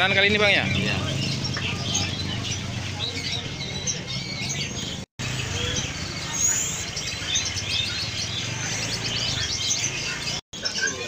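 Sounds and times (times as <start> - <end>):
small birds chirping in chorus: 0.0 - 11.0.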